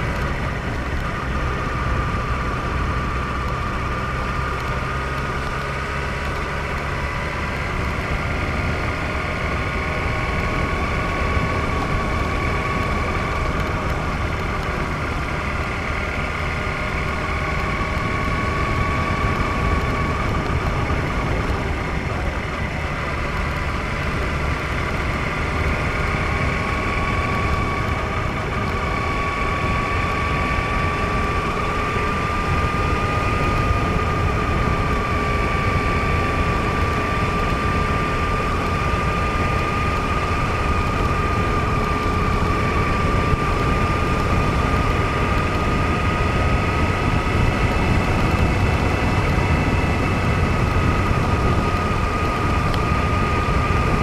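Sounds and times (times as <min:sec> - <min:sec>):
vehicle whine rising in pitch: 0:00.0 - 0:54.0
wind rumble on microphone: 0:00.0 - 0:54.0.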